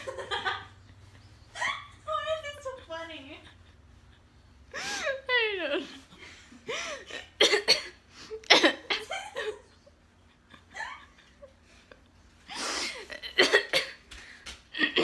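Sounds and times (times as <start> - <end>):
woman laughing: 0.0 - 14.0, 14.7 - 15.0.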